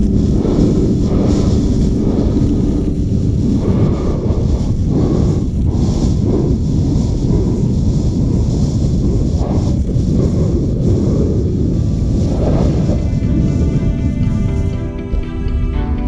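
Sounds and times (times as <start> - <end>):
skis scraping over snow: 0.0 - 15.4
wind buffeting microphone: 0.0 - 16.0.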